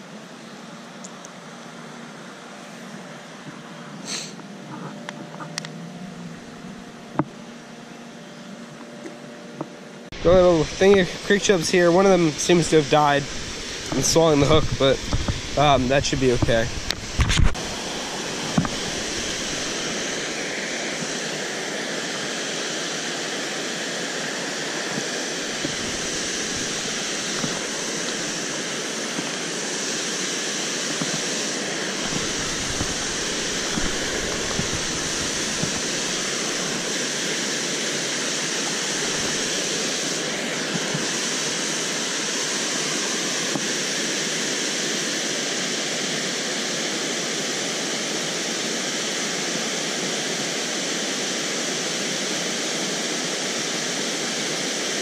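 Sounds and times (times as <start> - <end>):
water rushing over dam: 10.2 - 55.0.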